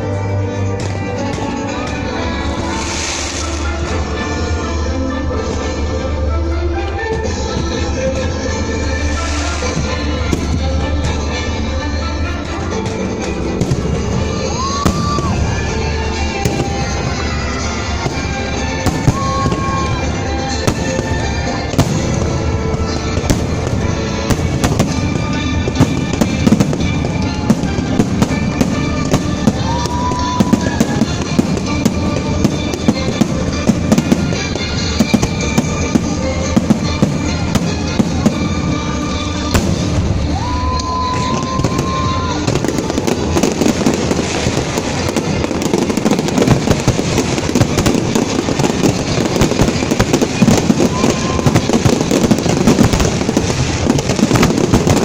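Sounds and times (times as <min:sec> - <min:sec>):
fireworks bangs and crackles: 0:00.0 - 0:55.0
music playing: 0:00.0 - 0:55.0.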